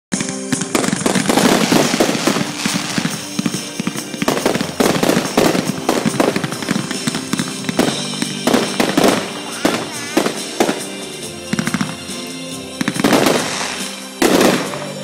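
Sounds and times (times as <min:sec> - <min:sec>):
fireworks bangs and crackling: 0:00.1 - 0:15.0.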